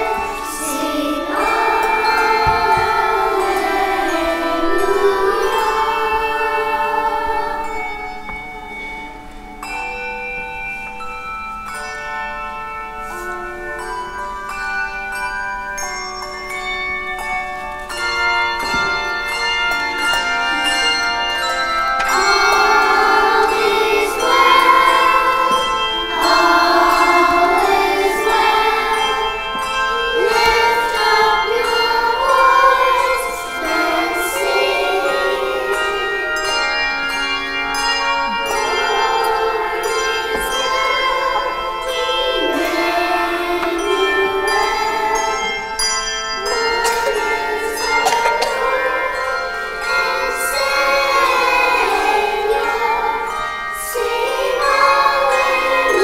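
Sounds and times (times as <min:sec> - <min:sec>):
children's choir singing: 0:00.0 - 0:56.0
handbells ringing chords: 0:00.0 - 0:56.0.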